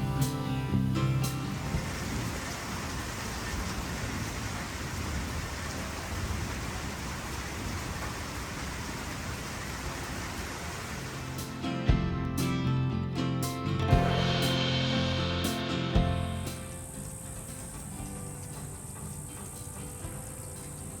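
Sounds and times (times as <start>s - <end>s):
rushing of falling water: 0.0s - 12.7s, 13.4s - 21.0s.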